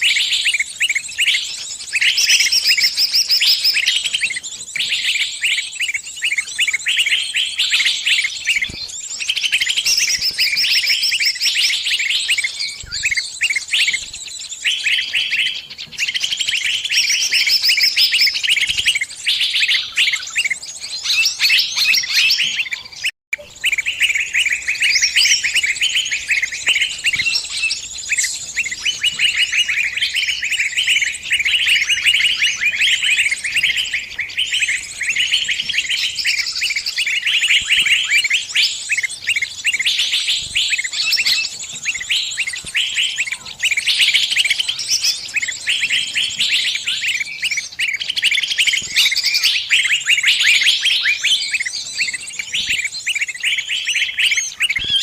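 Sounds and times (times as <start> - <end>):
small bird distress calls: 0.0 - 55.0.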